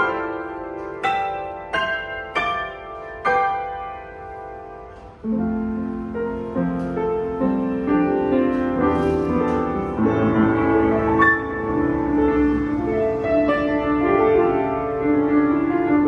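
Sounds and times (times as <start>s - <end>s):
upright piano playing: 0.0s - 16.0s.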